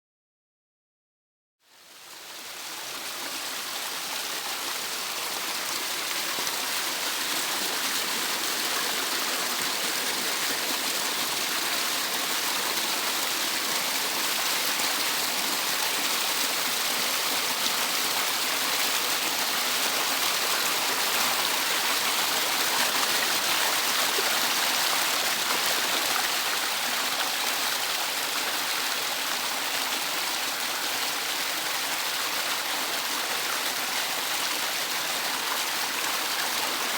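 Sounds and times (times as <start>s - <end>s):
water rushing down a cascade: 1.9s - 36.9s.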